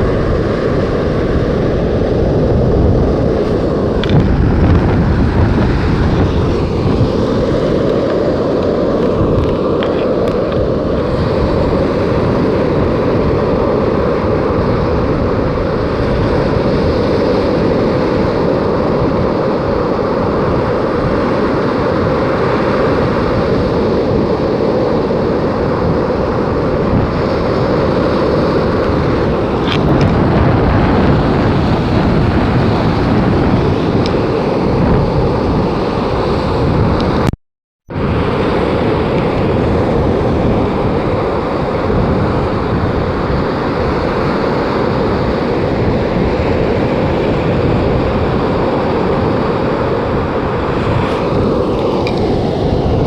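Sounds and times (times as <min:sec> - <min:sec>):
stormy sea surf: 0:00.0 - 0:53.0
wind buffeting microphone: 0:00.0 - 0:53.0.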